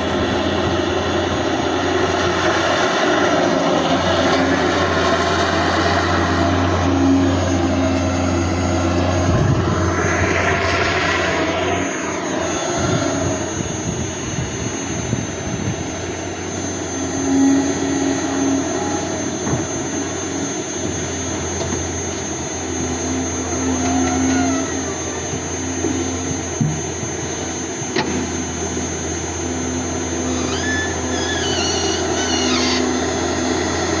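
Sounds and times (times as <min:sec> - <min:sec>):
excavator diesel engine running: 0:00.0 - 0:34.0
rising and falling whine: 0:00.0 - 0:34.0.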